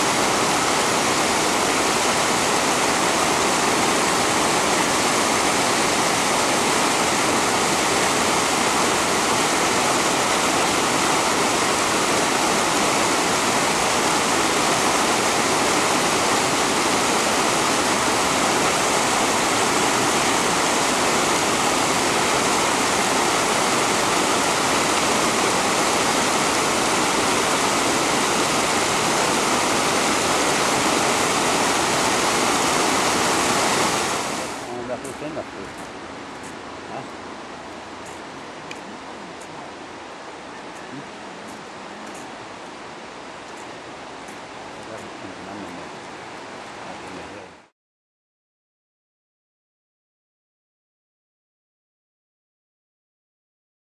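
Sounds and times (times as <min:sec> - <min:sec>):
river rushing over rocks: 0:00.0 - 0:47.7.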